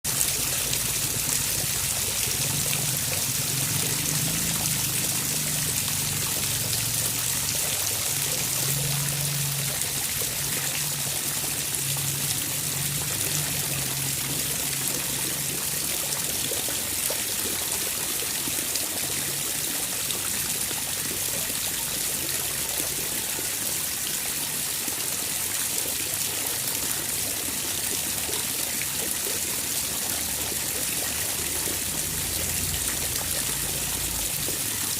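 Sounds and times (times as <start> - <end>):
water trickling and pouring: 0.1 - 34.9.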